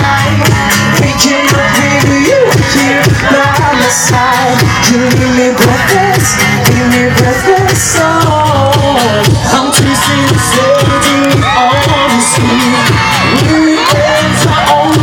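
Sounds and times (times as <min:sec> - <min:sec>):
amplified backing track with beat: 0:00.0 - 0:15.0
man singing: 0:00.0 - 0:15.0.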